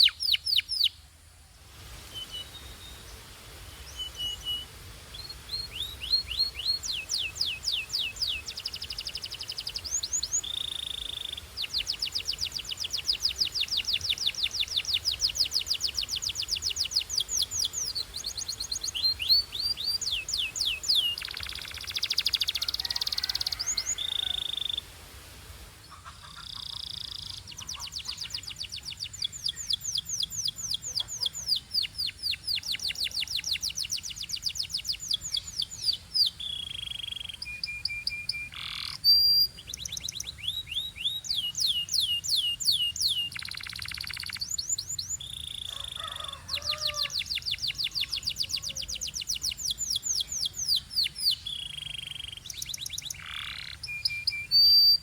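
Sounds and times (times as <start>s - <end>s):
canary singing: 0.0s - 1.0s, 3.8s - 24.9s, 26.0s - 55.0s.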